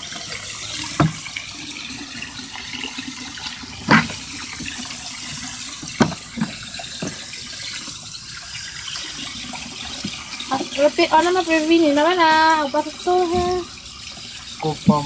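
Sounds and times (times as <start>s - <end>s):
water pouring into plastic tub: 0.0s - 15.0s.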